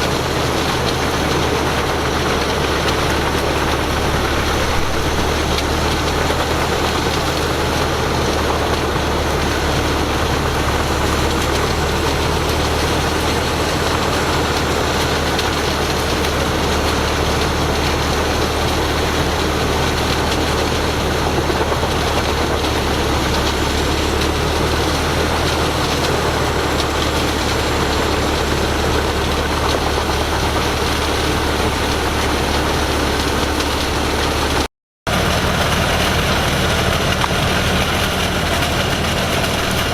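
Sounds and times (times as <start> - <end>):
diesel machinery droning: 0.0 - 39.9.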